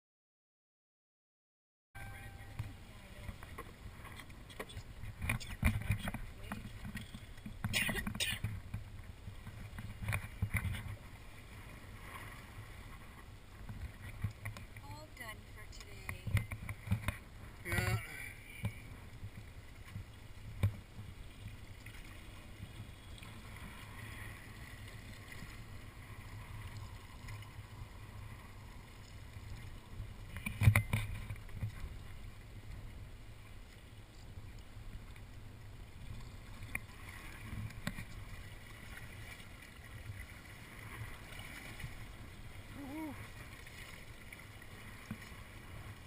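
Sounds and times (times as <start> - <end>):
boat motor rumbling: 2.0 - 46.0.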